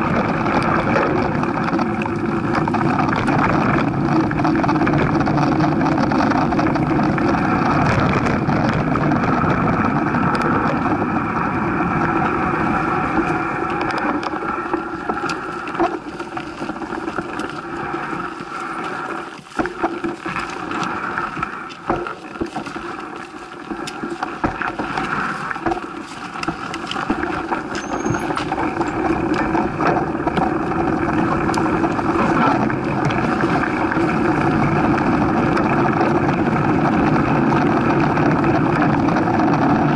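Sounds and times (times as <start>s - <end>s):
bike rattles and knocks: 0.0s - 11.3s, 12.2s - 39.9s
tyre rumble on dirt trail: 0.0s - 39.9s.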